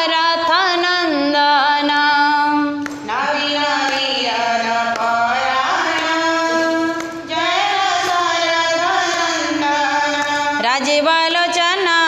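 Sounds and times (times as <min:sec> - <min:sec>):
women singing devotional song: 0:00.0 - 0:12.0.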